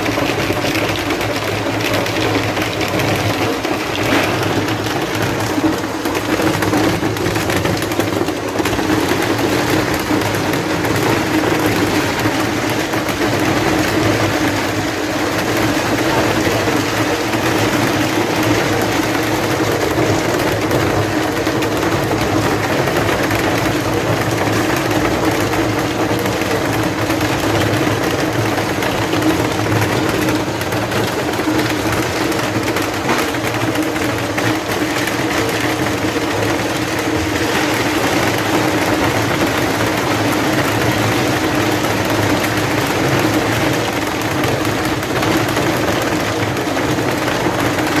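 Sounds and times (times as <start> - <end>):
ice machine humming: 0.0 - 48.0.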